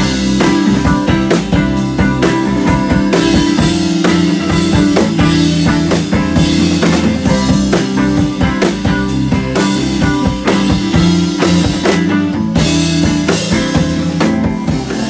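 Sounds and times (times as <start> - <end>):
drum kit hits: 0.0 - 15.0
electric guitars: 0.0 - 15.0.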